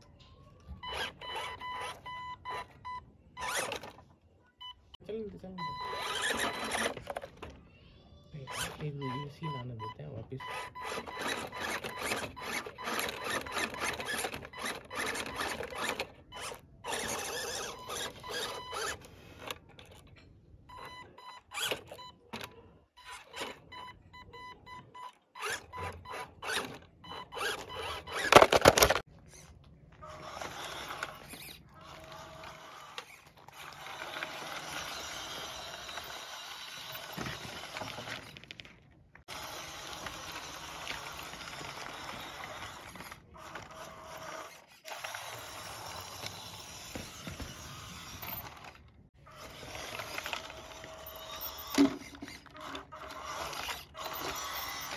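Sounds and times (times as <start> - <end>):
toy car motors whirring: 0.0 - 4.7, 5.6 - 54.9.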